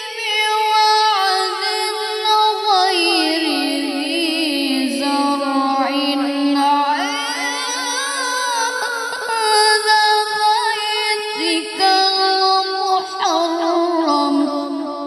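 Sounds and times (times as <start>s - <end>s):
boy reciting melodically into microphone: 0.0s - 15.0s.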